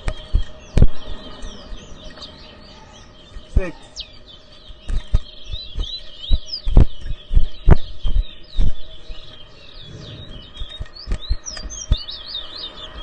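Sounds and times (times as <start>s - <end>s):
finches chirping and whistling: 0.0s - 13.0s.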